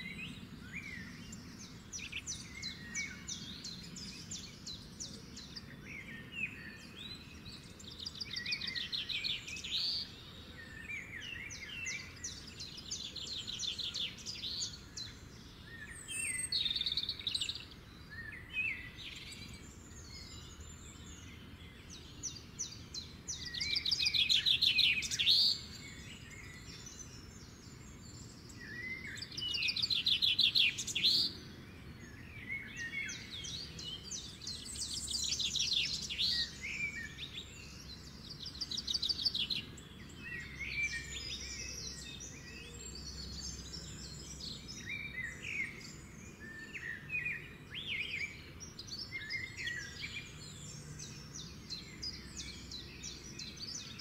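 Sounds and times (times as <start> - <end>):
low background noise: 0.0 - 54.0
songbirds trilling: 0.0 - 54.0.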